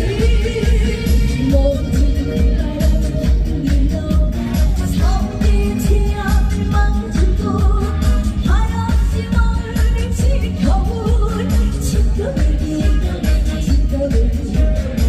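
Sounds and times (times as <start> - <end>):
backing track with thumping beat: 0.0 - 15.0.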